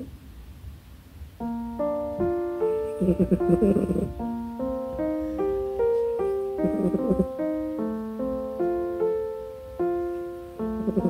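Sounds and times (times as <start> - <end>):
gentle piano melody: 1.4 - 11.0.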